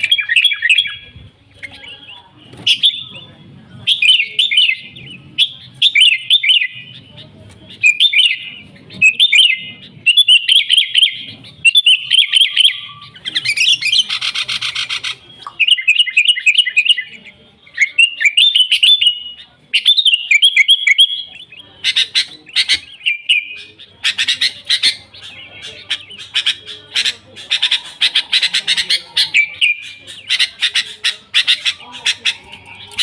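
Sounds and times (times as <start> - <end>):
bulbuls singing: 0.0 - 33.0.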